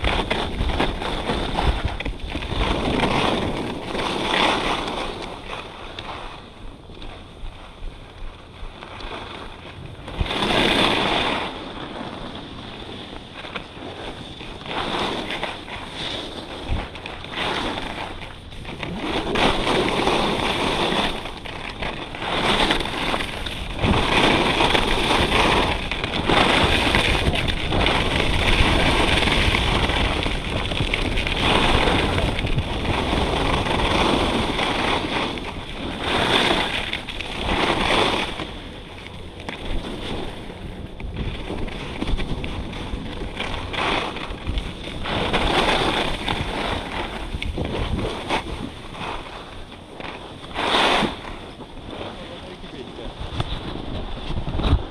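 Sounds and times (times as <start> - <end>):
skis scraping over hard snow: 0.0 - 54.9
wind buffeting microphone: 0.0 - 54.9.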